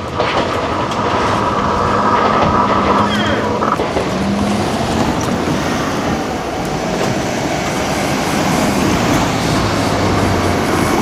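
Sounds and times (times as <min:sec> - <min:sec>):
electric train passing: 0:00.0 - 0:11.0
wheel and rail noise: 0:00.0 - 0:11.0.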